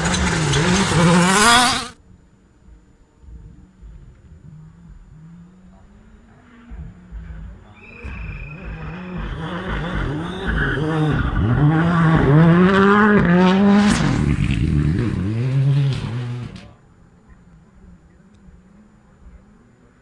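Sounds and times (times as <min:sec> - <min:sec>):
rally car engine revving: 0:00.0 - 0:02.0, 0:03.3 - 0:20.0.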